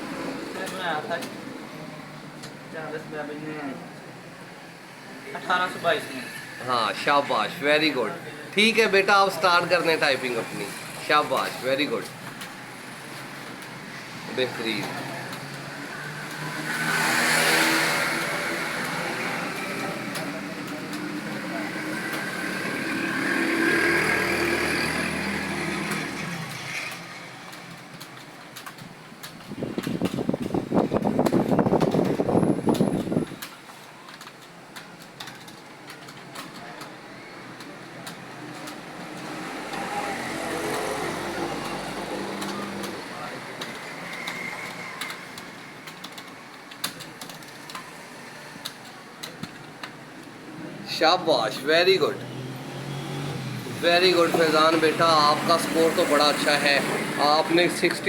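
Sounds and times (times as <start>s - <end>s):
fast keyboard typing: 0.1s - 1.6s, 8.6s - 50.4s, 53.3s - 58.0s.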